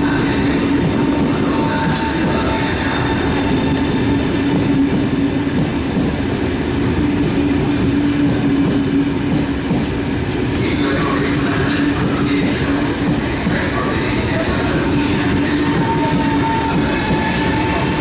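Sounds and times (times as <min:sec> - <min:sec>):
electric train running: 0:00.0 - 0:18.0.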